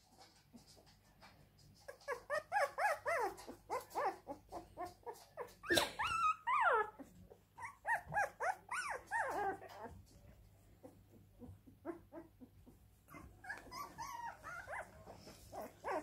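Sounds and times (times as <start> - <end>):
puppy whimpering and crying: 1.9 - 10.1, 10.8 - 16.0.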